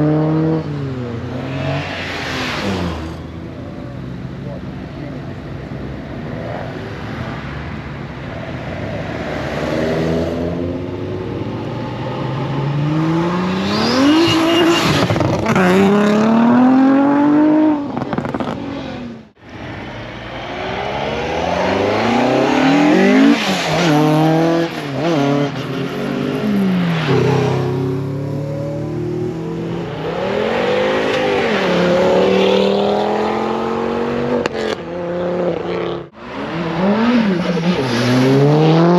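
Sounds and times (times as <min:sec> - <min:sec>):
cars revving while driving away: 0:00.0 - 0:03.5, 0:06.1 - 0:19.2, 0:20.1 - 0:38.9.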